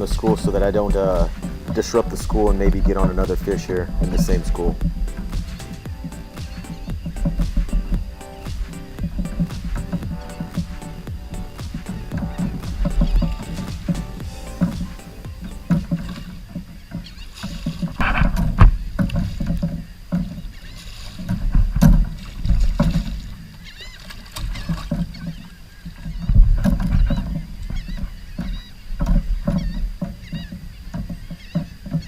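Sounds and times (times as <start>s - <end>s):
water splashing and sloshing: 0.0s - 32.0s.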